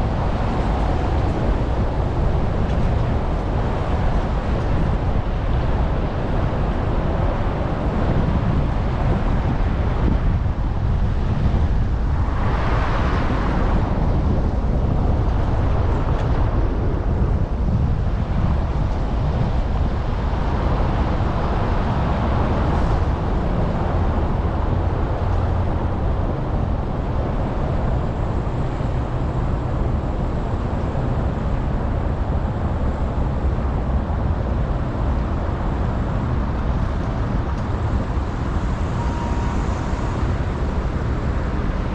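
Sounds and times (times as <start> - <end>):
road noise: 0.0 - 41.9
wind buffeting microphone: 0.0 - 41.9.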